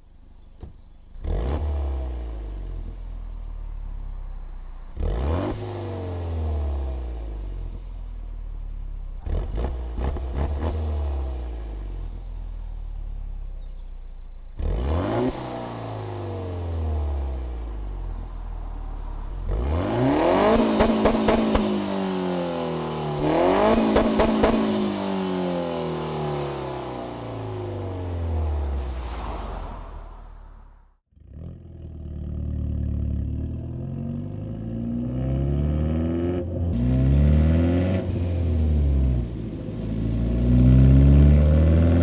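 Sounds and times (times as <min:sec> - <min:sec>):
car engine revving: 0:01.2 - 0:04.2, 0:04.8 - 0:13.9, 0:14.5 - 0:42.0.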